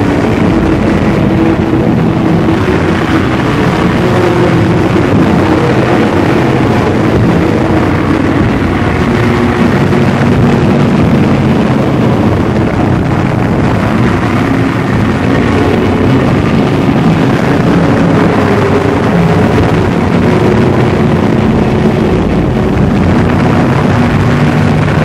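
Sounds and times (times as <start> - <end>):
dark ambient drone music: 0.0 - 25.0.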